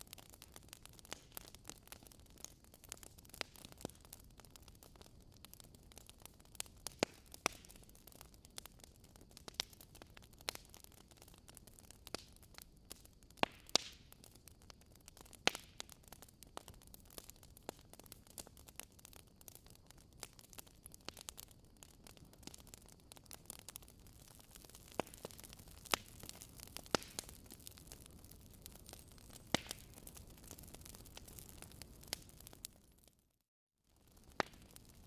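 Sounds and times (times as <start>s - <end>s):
wood fire crackling: 0.0s - 33.1s, 34.0s - 35.0s.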